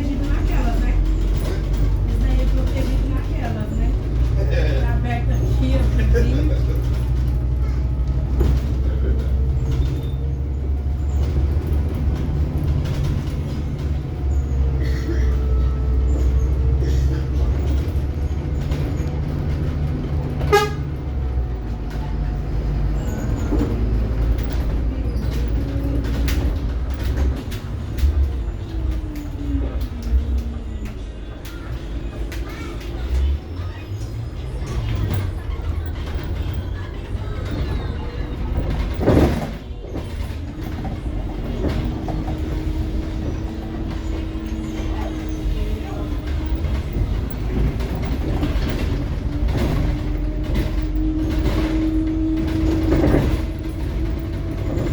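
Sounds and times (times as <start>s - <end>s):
bus engine rumble from inside: 0.0s - 54.9s.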